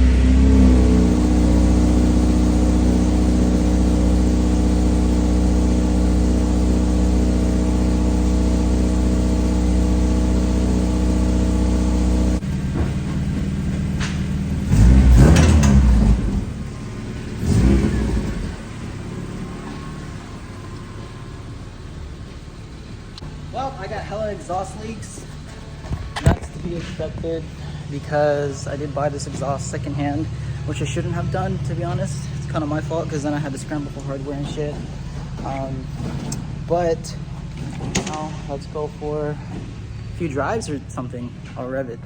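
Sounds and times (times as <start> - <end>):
car engine idling: 0.0 - 42.0
engine revs: 0.0 - 42.0.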